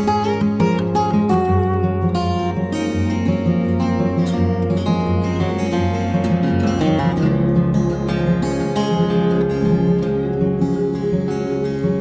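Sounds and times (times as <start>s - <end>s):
strummed and plucked acoustic guitar: 0.0s - 12.0s.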